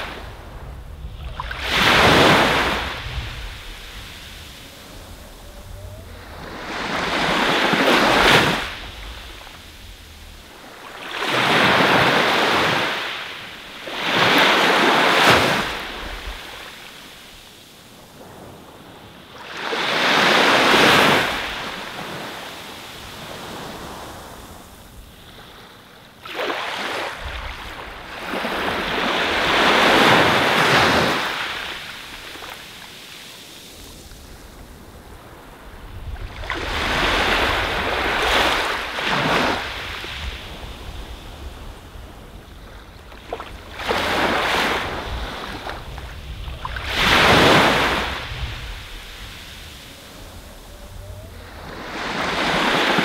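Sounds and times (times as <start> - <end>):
ocean waves breaking on shore: 0.0 - 53.0.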